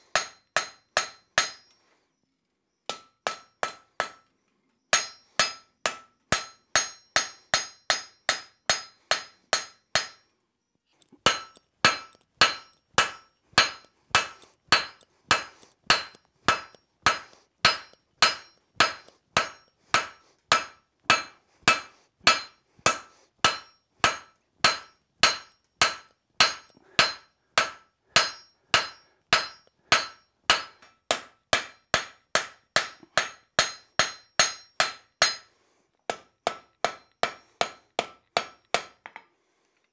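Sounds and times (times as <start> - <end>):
hammer striking steel on anvil: 0.1 - 1.8, 2.9 - 4.2, 4.9 - 10.3, 11.2 - 35.5, 36.1 - 39.2.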